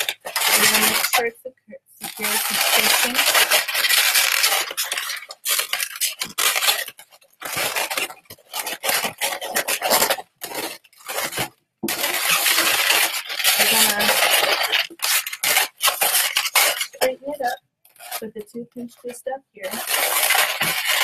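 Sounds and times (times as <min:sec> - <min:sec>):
balloons rubbing together: 0:00.0 - 0:01.3, 0:02.0 - 0:18.2, 0:19.6 - 0:21.0.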